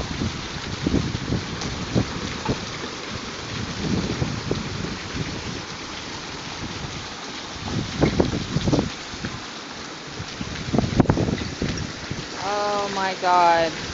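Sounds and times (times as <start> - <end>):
hail falling: 0.0 - 13.9.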